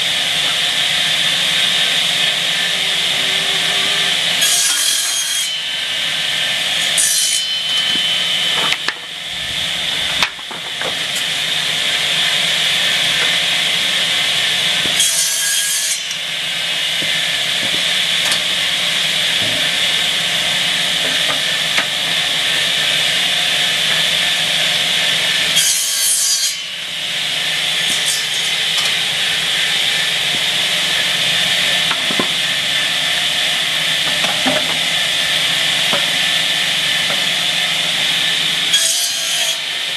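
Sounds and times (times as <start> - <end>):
circular saw running: 0.0 - 39.9
saw blades cutting wood: 0.0 - 39.9.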